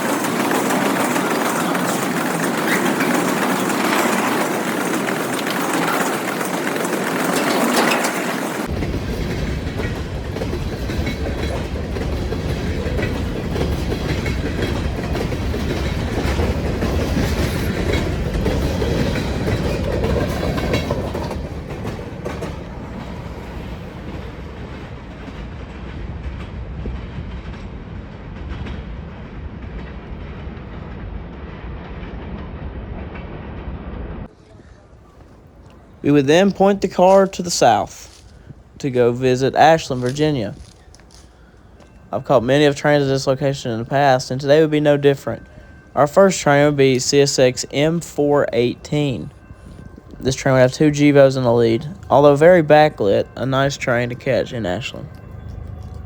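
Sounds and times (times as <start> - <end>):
freight train wheels clacking: 0.0 - 31.1, 34.2 - 56.0.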